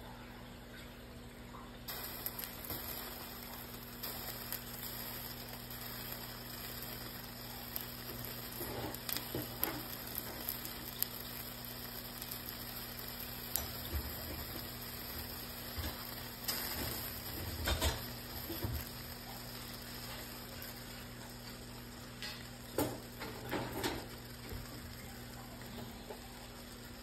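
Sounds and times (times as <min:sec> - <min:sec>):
low steady hum: 0:00.0 - 0:27.0
pancake sizzling in a pan: 0:01.9 - 0:27.0.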